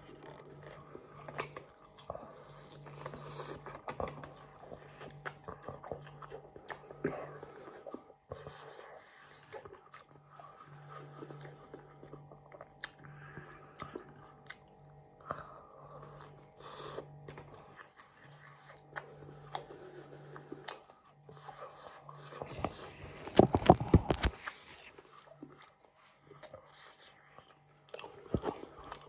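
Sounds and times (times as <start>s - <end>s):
chewing crunchy battered fish: 0.0s - 29.0s.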